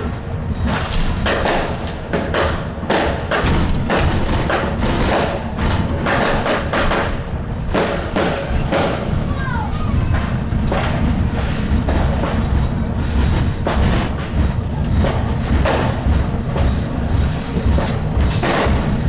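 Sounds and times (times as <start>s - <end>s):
firecrackers banging: 0.0s - 19.0s
tram rumbling: 0.0s - 19.0s.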